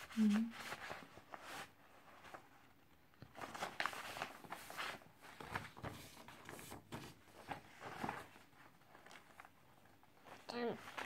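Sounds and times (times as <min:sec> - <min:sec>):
paper and bedding rustling: 0:00.0 - 0:11.0.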